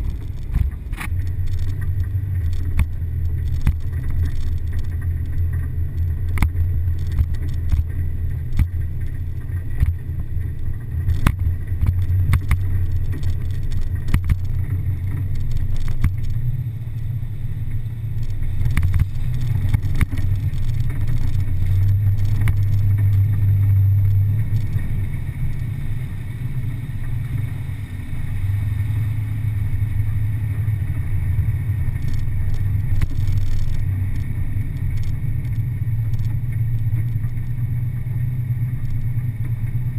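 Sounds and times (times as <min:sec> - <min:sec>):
off-road vehicle engine drone: 0:00.0 - 0:39.9.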